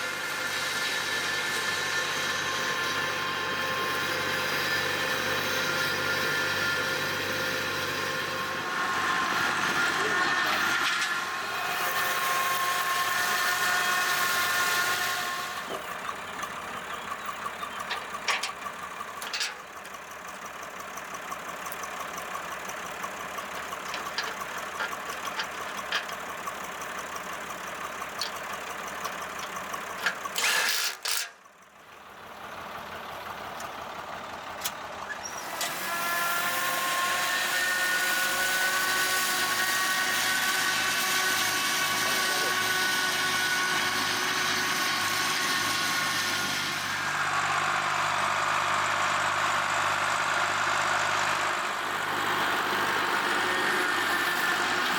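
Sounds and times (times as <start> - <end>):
flail mulcher whining: 0.0 - 31.5, 32.9 - 54.9.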